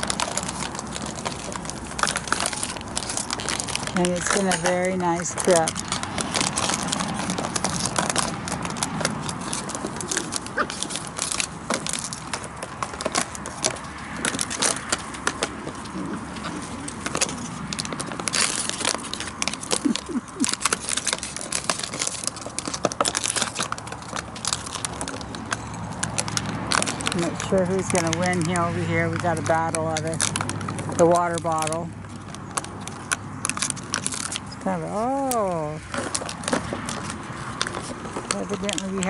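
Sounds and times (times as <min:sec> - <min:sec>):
plastic bottle crinkling: 0:00.0 - 0:39.0.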